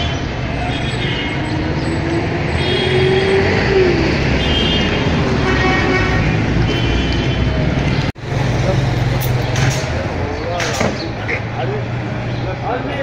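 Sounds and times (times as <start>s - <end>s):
street traffic: 0.0s - 13.0s
engine revving: 1.2s - 12.8s.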